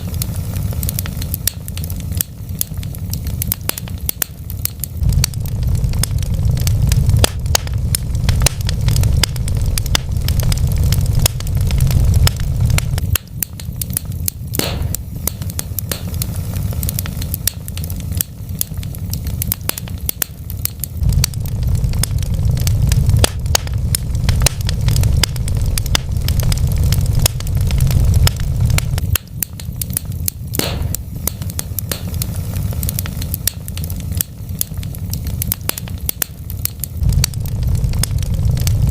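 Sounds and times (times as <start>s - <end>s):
burning logs crackling: 0.0s - 38.9s
loud pops of fire: 0.0s - 38.9s
low rumble of flames: 0.0s - 38.9s.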